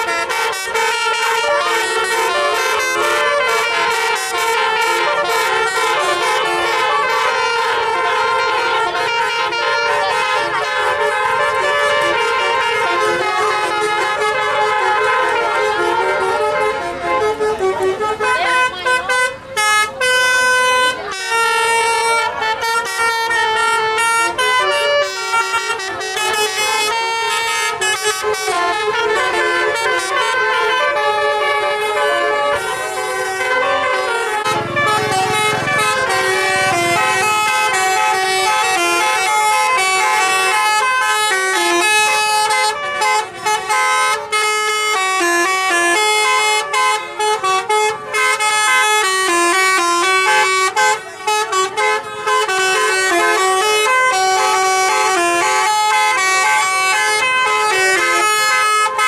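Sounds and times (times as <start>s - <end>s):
bus horns playing fast melody: 0.0s - 59.0s.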